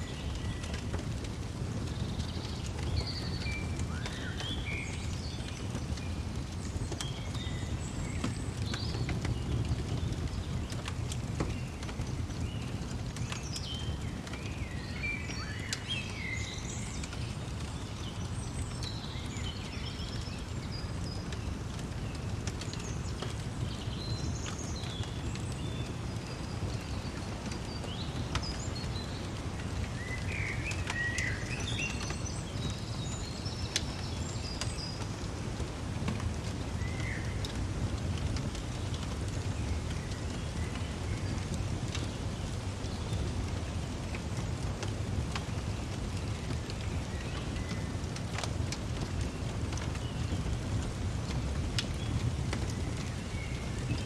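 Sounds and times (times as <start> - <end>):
faint crackles: 0.0 - 54.0.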